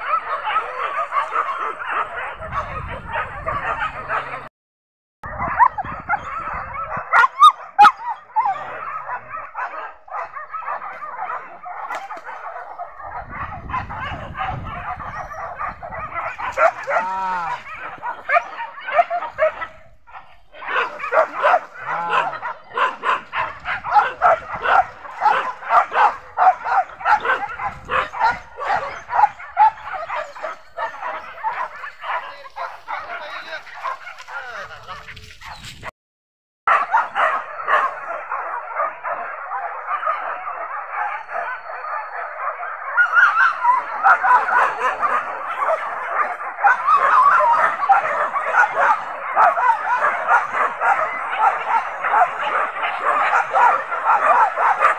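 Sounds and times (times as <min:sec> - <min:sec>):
dogs barking and yelping: 0:00.0 - 0:04.5, 0:05.2 - 0:35.9, 0:36.7 - 0:54.9.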